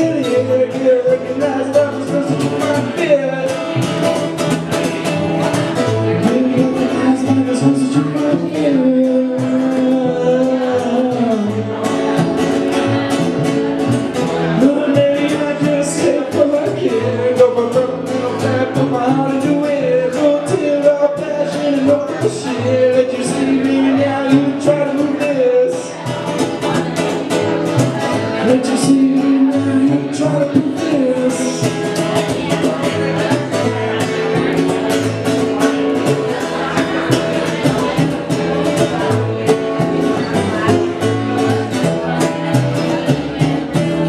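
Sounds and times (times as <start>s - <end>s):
man singing: 0.0s - 44.0s
plucked double bass: 0.0s - 44.0s
strummed acoustic guitar: 0.0s - 44.0s.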